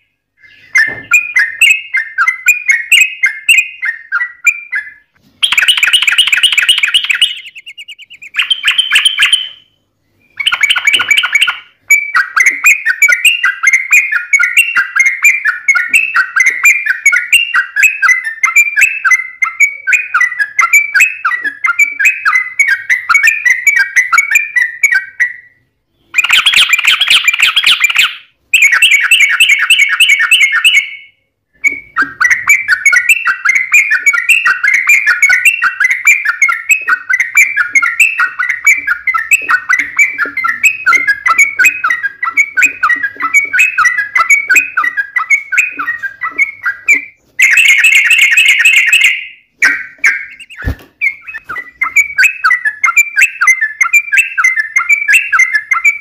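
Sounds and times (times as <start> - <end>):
bird bubbly chattering song: 0.0 - 56.0.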